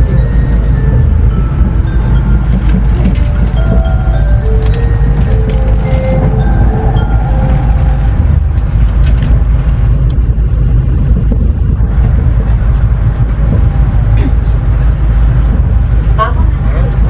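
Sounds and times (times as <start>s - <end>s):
train rumble inside cabin: 0.0s - 17.0s.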